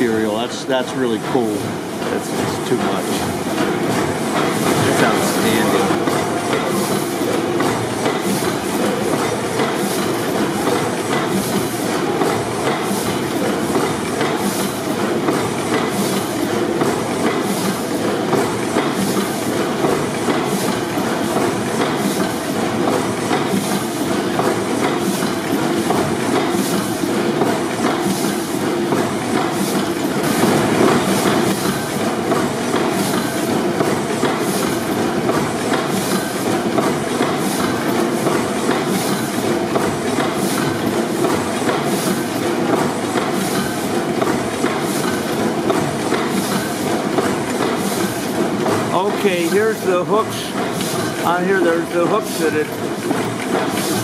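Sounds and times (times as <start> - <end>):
compressor engine rhythmic clatter: 0.0 - 54.0.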